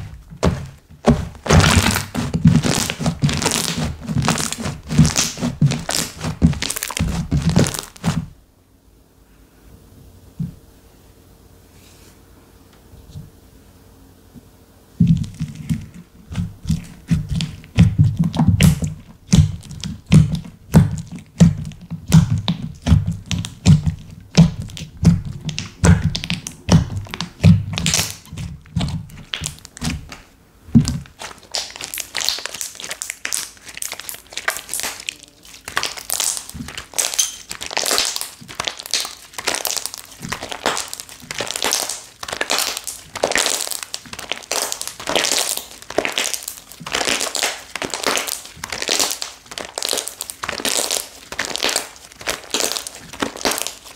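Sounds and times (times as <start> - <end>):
slime crackling and crinkling: 0.0 - 8.4, 15.0 - 53.9
slime thudding: 0.0 - 8.4, 15.0 - 53.9.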